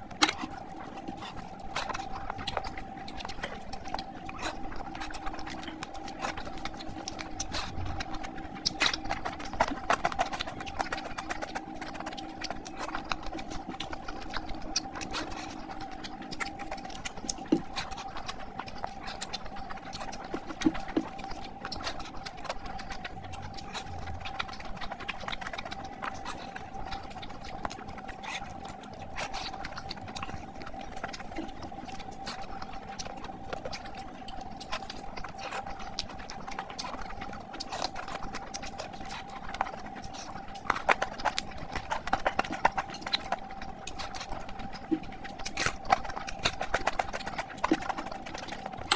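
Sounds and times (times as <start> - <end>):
wet chewing and lip-smacking: 0.0 - 48.9.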